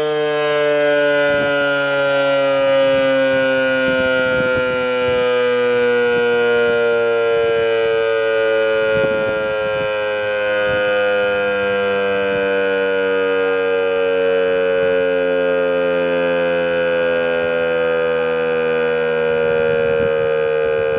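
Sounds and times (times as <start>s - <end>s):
electric motor siren tone: 0.0s - 20.9s.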